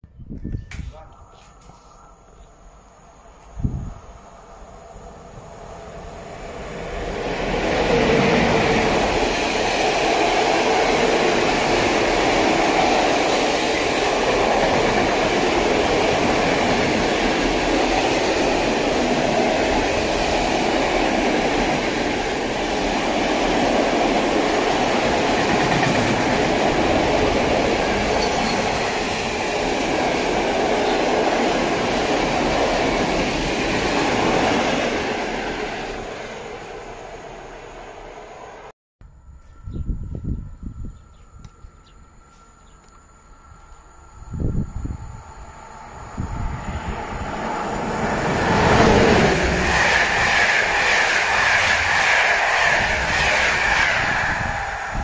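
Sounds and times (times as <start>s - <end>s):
train wheels rolling on rail: 2.4s - 38.7s, 40.8s - 55.0s.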